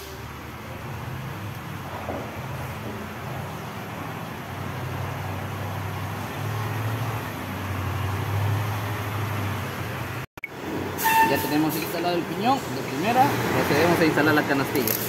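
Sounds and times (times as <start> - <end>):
broad background noise: 0.0 - 15.0.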